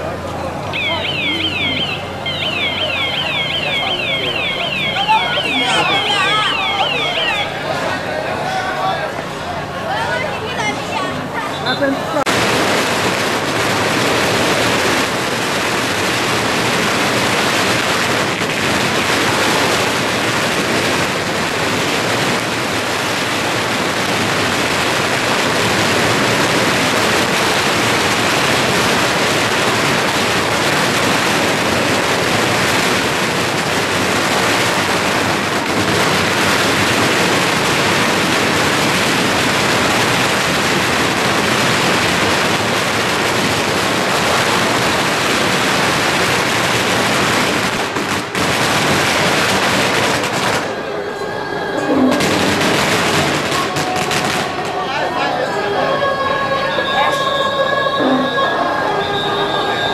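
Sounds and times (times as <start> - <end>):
firecracker barrage crackling: 0.0 - 59.9.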